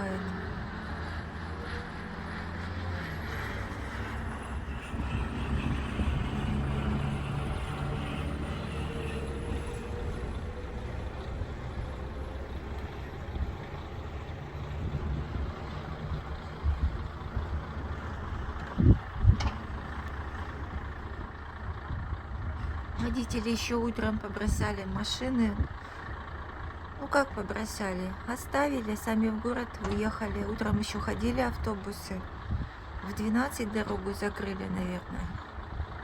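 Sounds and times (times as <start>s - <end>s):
vehicle engine straining: 0.0s - 36.0s.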